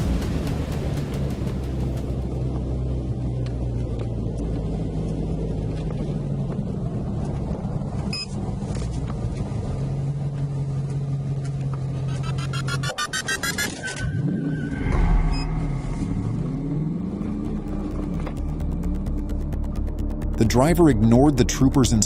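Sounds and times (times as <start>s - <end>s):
car engine idling: 0.0s - 13.6s, 14.8s - 22.0s.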